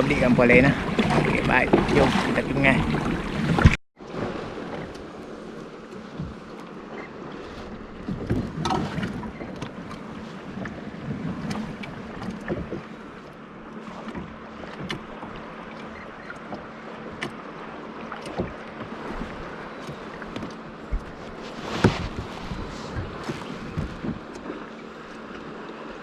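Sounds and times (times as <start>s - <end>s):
paddle splashes: 0.0s - 26.0s
water wash: 0.0s - 26.0s.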